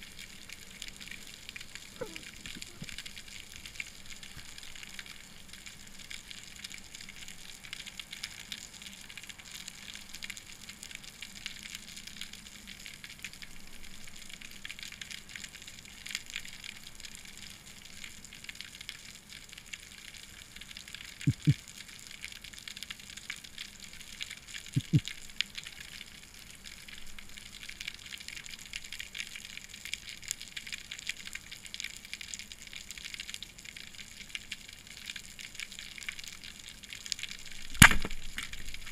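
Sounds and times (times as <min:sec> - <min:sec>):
underwater crackling and hiss: 0:00.0 - 0:38.9.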